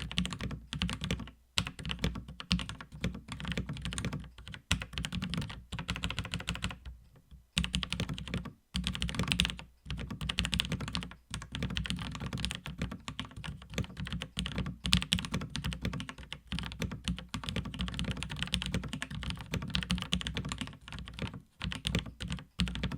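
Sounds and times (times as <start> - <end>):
mechanical keyboard typing: 0.0 - 22.9.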